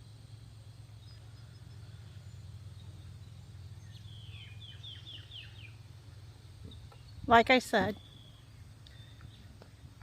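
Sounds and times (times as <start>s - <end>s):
steady low rumble: 0.0s - 10.0s
small bird chirping: 0.9s - 10.0s.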